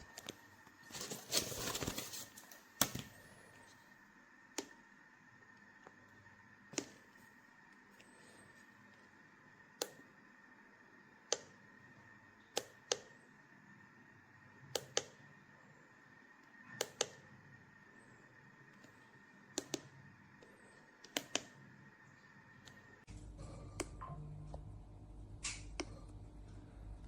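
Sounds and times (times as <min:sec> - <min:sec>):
faint high-pitched hum: 0:00.0 - 0:27.0.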